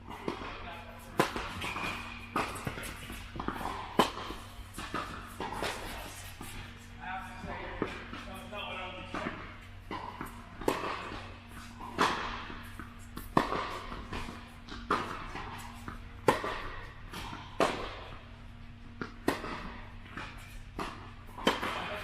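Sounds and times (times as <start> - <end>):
tennis balls struck by rackets: 0.0 - 22.0.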